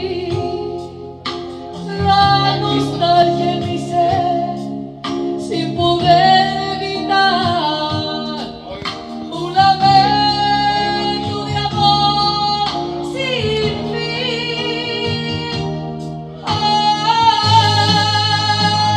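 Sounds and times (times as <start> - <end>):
instrumental backing music: 0.0 - 18.9
woman singing into microphone: 0.0 - 18.9.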